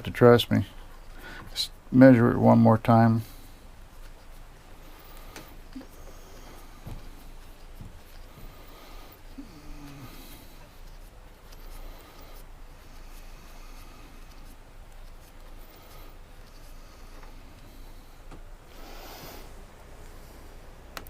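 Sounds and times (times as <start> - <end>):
faint rubbing and handling noises: 0.0 - 21.0
low steady hum: 0.0 - 21.0.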